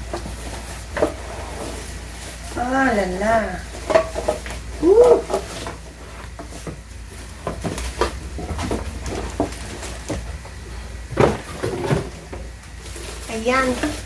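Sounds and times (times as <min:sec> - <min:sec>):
plastic wrapping rustling: 0:00.0 - 0:14.0.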